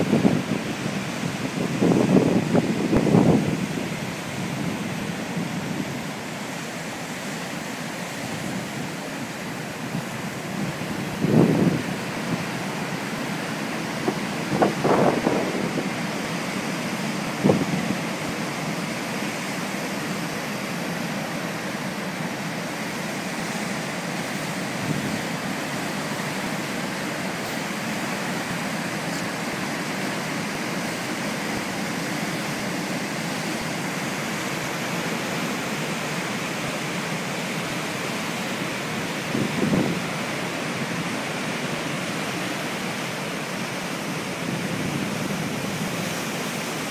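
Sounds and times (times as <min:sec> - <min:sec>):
waves breaking over rocks: 0:00.0 - 0:46.9.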